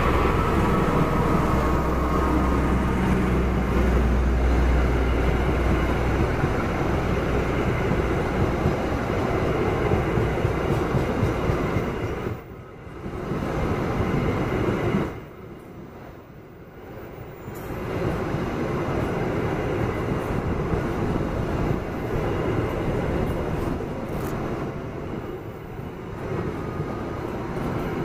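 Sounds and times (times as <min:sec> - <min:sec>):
diesel locomotive rumble: 0:00.0 - 0:28.0.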